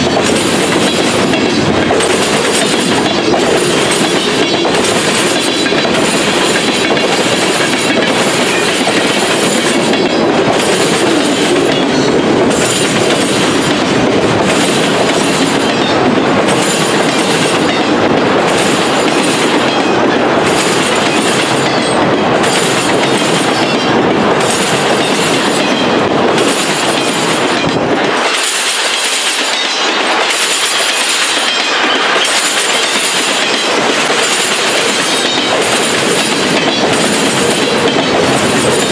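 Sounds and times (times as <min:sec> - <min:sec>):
freight train wheels rumbling and rattling: 0:00.0 - 0:38.9
train wheels clickety-clack: 0:00.0 - 0:38.9.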